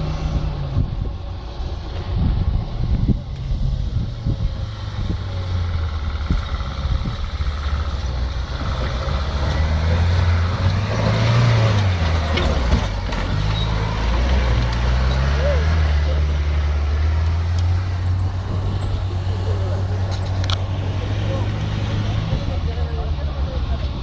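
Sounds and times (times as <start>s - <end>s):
engine running under load: 0.0s - 24.0s.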